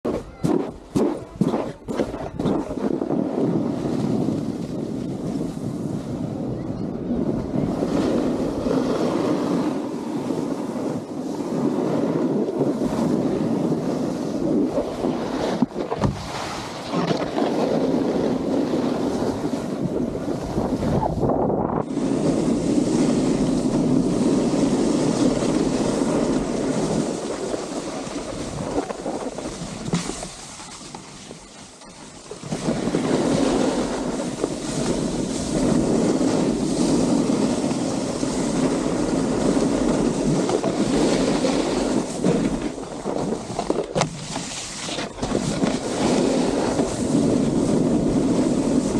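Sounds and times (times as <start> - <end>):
wind on microphone: 0.0 - 48.9
snowboard scraping over snow: 0.1 - 48.9.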